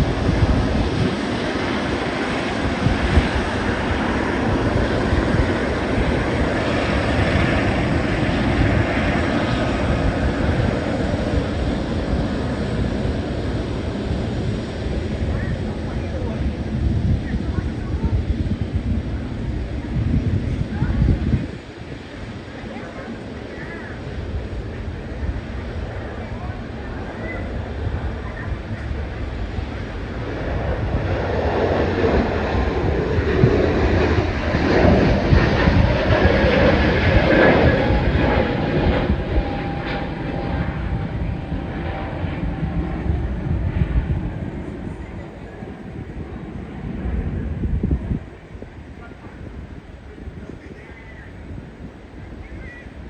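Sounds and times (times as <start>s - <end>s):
jet engines running: 0.0s - 53.0s
wind buffeting microphone: 0.0s - 53.0s.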